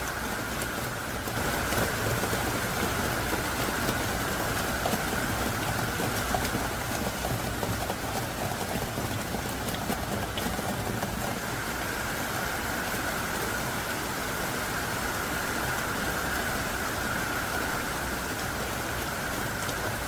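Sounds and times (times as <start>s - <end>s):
heavy rain downpour: 0.0s - 20.0s.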